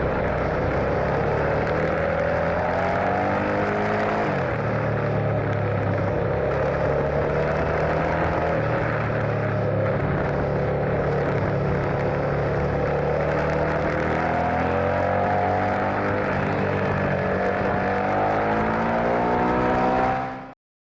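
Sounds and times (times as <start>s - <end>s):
motorcycle engine accelerating: 0.0s - 20.6s.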